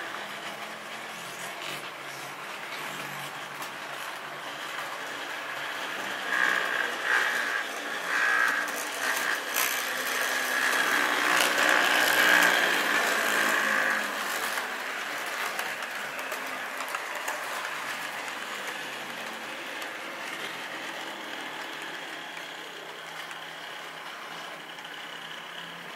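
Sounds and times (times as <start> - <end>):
model train wheels clattering: 0.0 - 25.9.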